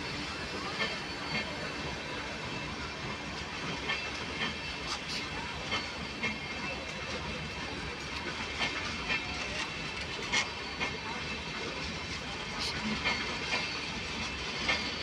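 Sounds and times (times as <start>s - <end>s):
train coaches rumbling past: 0.0s - 15.0s.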